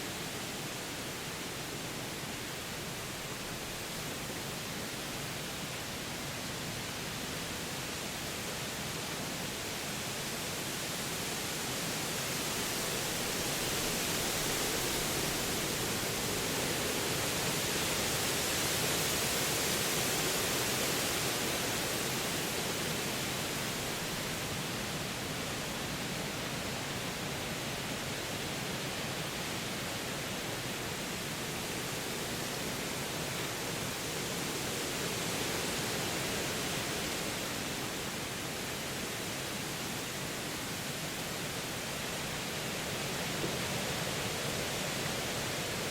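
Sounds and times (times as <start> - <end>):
wind rushing through trees: 0.0 - 45.9.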